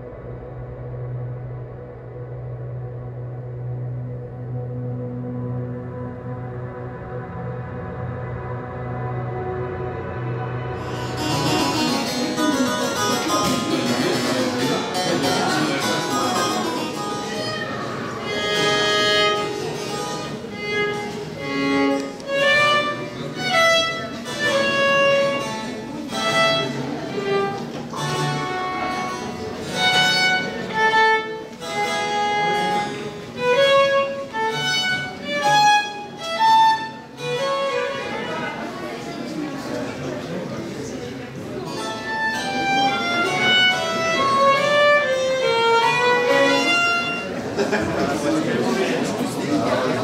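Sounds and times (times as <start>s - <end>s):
harpsichord accompaniment: 0.0s - 40.2s, 41.1s - 50.0s
bowed violin melody: 0.0s - 47.8s.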